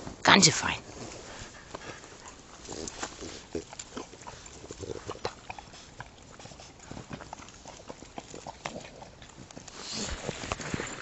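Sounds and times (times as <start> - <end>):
dog noises: 0.9 - 10.5.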